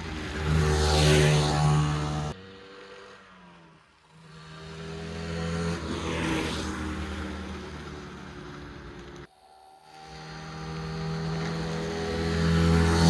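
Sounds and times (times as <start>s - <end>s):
two-stroke motorbike engine: 0.0s - 9.3s, 10.1s - 13.0s.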